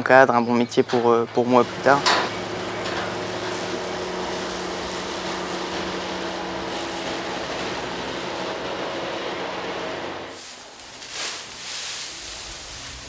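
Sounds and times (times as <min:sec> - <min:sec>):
low even engine hum: 0:00.0 - 0:13.0
tractor diesel engine running: 0:00.0 - 0:13.0.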